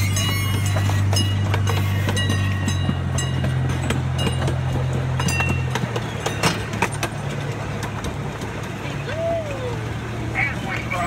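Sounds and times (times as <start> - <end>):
small locomotive engine humming: 0.0 - 11.0
wheels clicking and rattling on track: 0.0 - 11.0.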